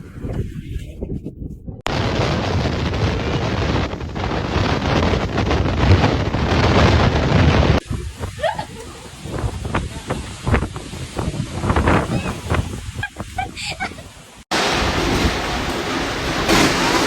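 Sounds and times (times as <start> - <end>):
gusty wind: 0.0 - 17.0
wind buffeting microphone: 0.0 - 17.0.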